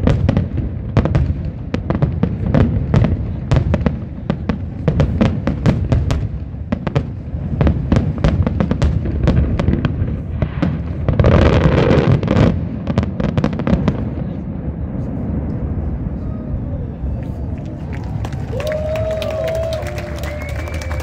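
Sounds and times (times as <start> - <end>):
fireworks bangs and cracks: 0.0 - 21.0.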